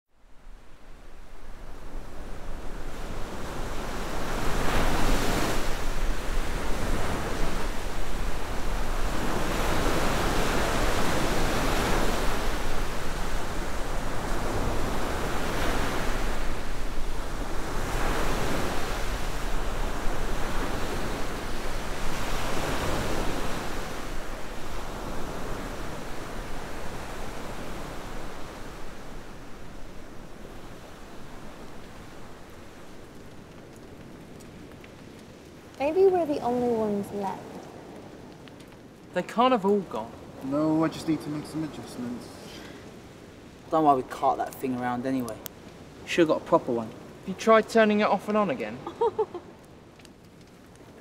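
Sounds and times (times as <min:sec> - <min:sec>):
waves breaking on beach: 0:00.4 - 0:38.6, 0:39.2 - 0:49.6.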